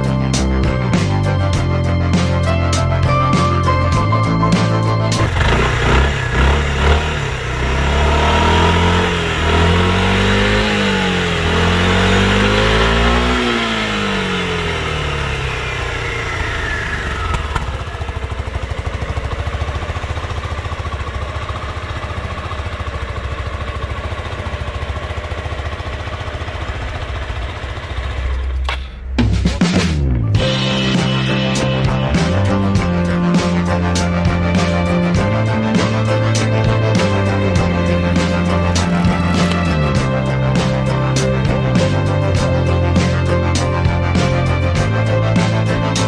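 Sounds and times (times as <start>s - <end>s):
scooter engine revving and idling: 4.5s - 29.2s, 32.0s - 46.0s.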